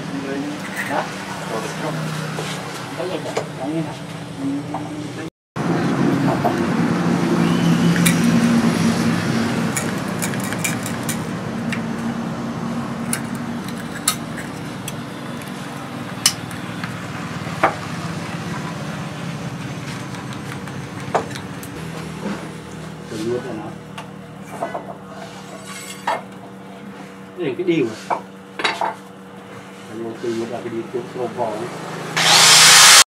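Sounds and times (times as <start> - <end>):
vehicle engine humming: 0.0 - 32.3.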